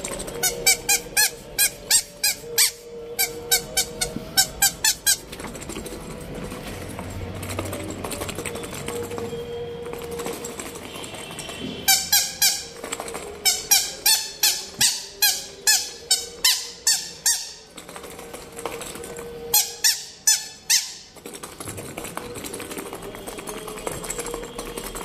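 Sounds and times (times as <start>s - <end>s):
squeaky toy squeaking: 0.0s - 6.3s, 7.6s - 21.6s.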